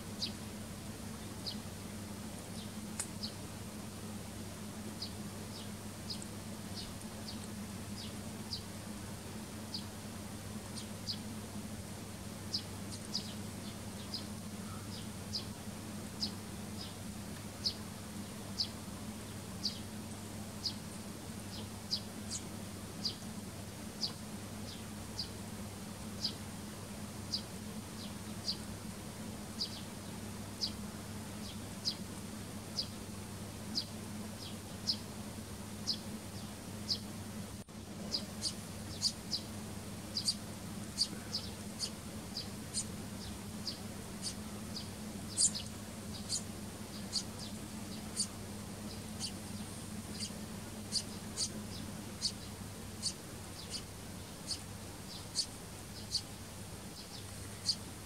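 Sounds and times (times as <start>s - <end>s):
steady low hum: 0.0s - 58.0s
sparrows chirping: 0.1s - 3.5s, 4.1s - 37.2s, 37.8s - 58.0s.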